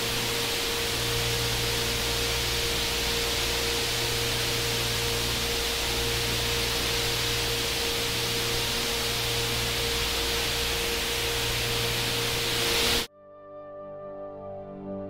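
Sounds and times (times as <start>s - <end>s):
faint steady tones: 0.0s - 13.1s
loud steady hiss: 0.0s - 13.1s
soft ambient keyboard music: 0.0s - 15.0s.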